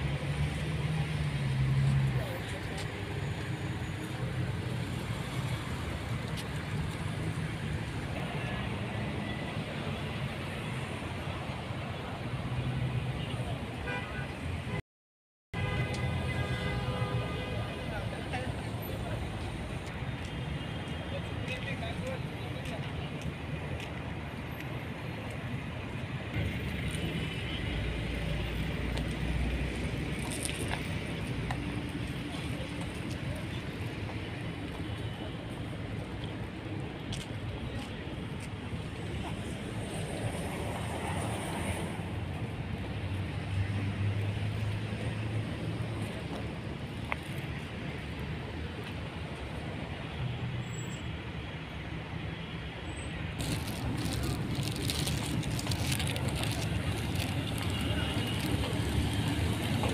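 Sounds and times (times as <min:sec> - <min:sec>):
road traffic hum: 0:00.0 - 0:14.8, 0:15.6 - 0:59.9.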